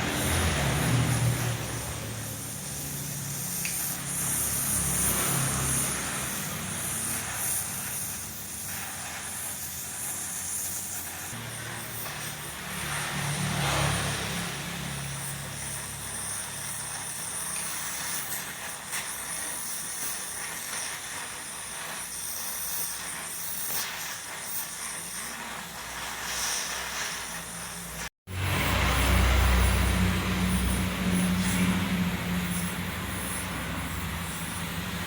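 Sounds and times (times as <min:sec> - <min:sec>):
electric welding hissing and crackling: 0:00.0 - 0:35.0.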